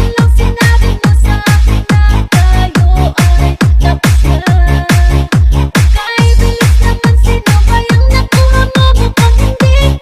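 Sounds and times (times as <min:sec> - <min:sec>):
kick drum: 0:00.0 - 0:10.0.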